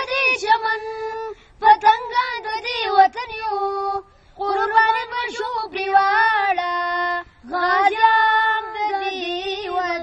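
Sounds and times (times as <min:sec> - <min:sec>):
boys singing unaccompanied: 0:00.0 - 0:10.0.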